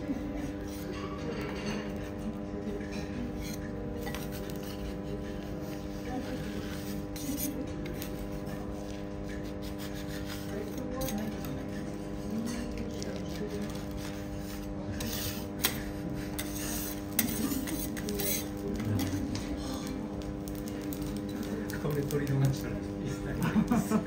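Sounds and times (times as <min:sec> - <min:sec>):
metal spatula scraping a griddle: 0:00.0 - 0:22.1.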